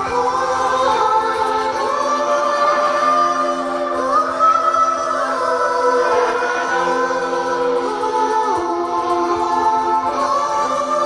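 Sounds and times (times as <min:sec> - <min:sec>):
electric guitar: 0:00.0 - 0:11.0
man singing long notes: 0:00.0 - 0:11.0.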